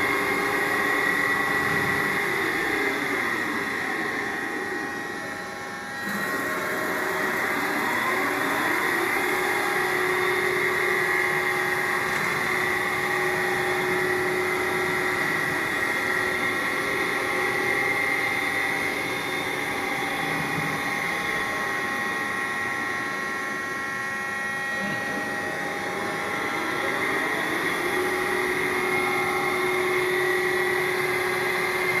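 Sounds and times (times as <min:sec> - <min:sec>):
lathe spindle whine: 0:00.0 - 0:32.0.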